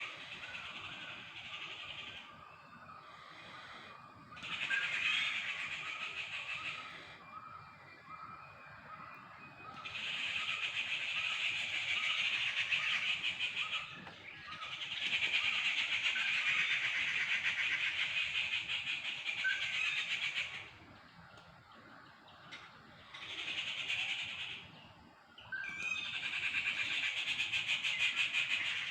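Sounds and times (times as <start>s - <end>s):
birds chattering: 0.0s - 28.9s.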